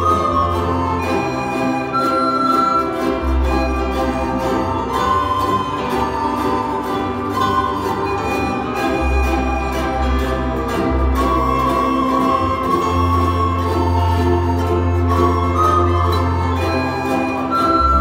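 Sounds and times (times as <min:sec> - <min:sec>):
ukulele chords strummed: 0:00.0 - 0:18.0
violin notes: 0:00.0 - 0:18.0.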